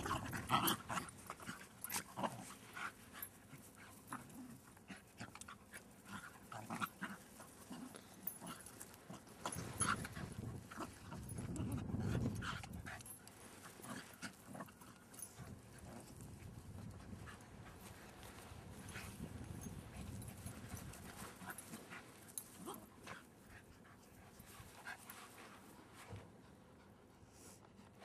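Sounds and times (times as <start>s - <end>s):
small dogs play-fighting: 0.0s - 27.2s.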